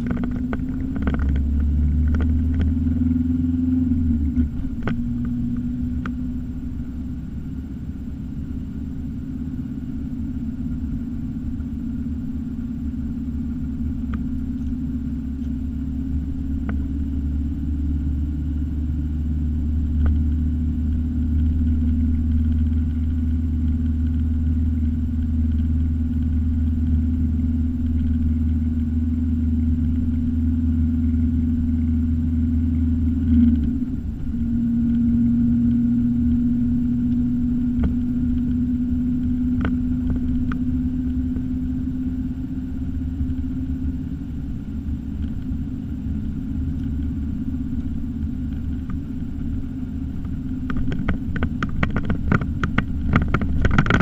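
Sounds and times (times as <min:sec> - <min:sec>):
car cabin engine and tyre drone: 0:00.0 - 0:54.0.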